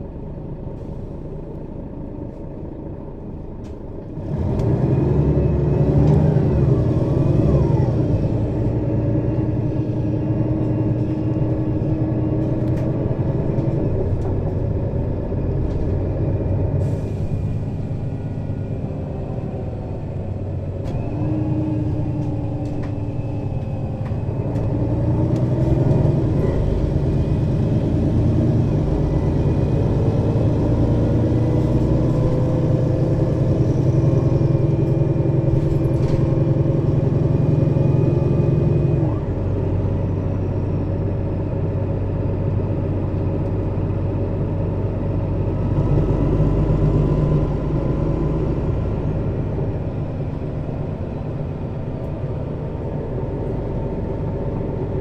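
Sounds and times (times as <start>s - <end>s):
bus diesel engine under load: 0.0s - 55.0s.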